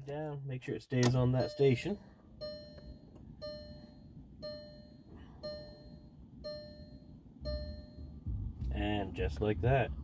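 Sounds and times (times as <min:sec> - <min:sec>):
dashboard warning chime dinging: 0:00.9 - 0:09.1.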